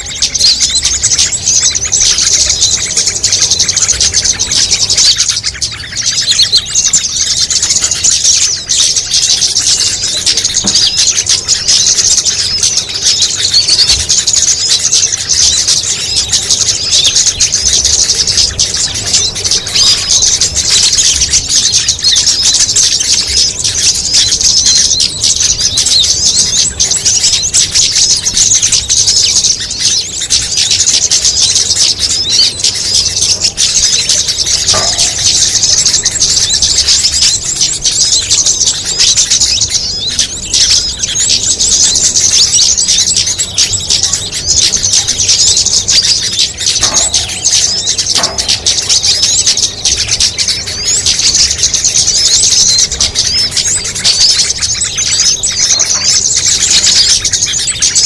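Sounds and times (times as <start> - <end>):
low bird call: 0.0 - 58.0
small songbirds calling: 0.0 - 58.0.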